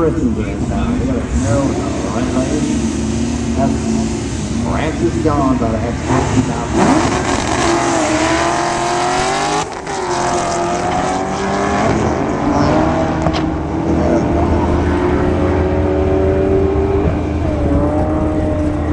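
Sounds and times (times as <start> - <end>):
car engines at full throttle: 0.0 - 18.9.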